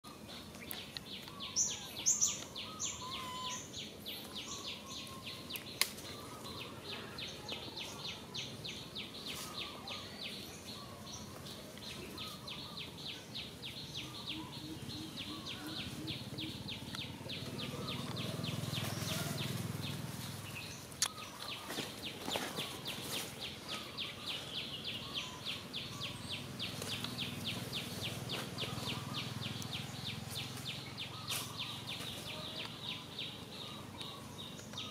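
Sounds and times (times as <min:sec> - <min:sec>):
insects calling: 0:00.8 - 0:34.9.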